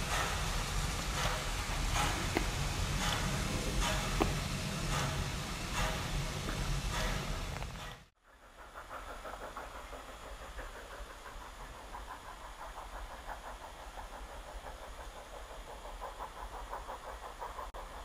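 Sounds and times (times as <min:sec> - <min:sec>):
distant steam locomotive chuffing: 0:00.0 - 0:18.0
steady steam hiss: 0:00.0 - 0:18.0.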